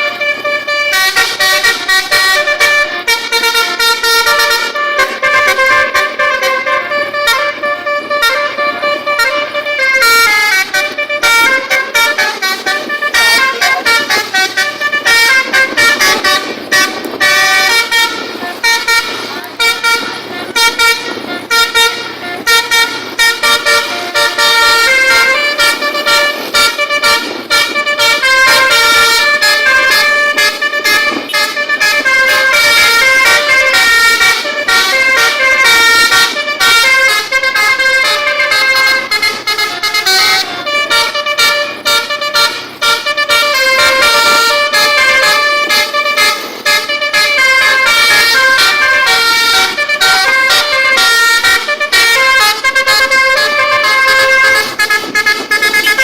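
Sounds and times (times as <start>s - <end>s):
musical bus horn playing tunes: 0.0s - 56.0s.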